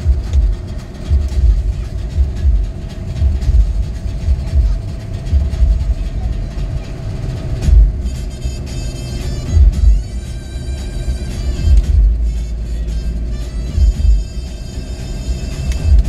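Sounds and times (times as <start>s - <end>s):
engine and road noise rumble: 0.0s - 16.0s
heavy low throbs: 0.0s - 16.0s.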